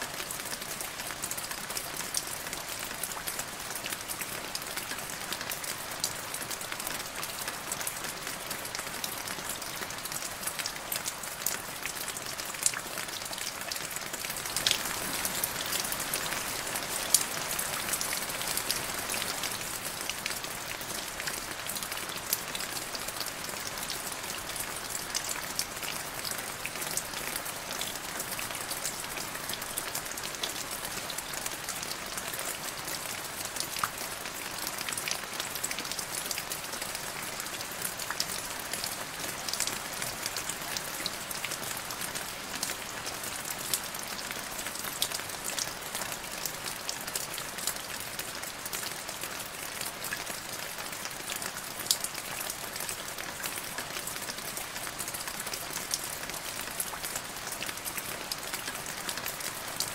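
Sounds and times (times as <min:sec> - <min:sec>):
rain falling into a puddle: 0:00.0 - 0:59.9.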